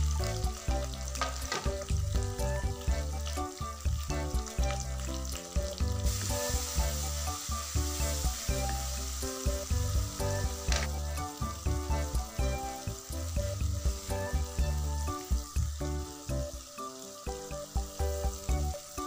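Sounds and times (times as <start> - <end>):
background music with bass beat: 0.0 - 18.8
masala sizzling in oil: 0.0 - 19.0.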